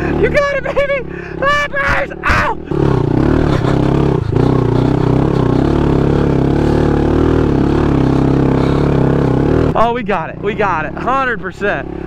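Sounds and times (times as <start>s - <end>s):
small motorbike engine running hard: 0.0s - 12.0s.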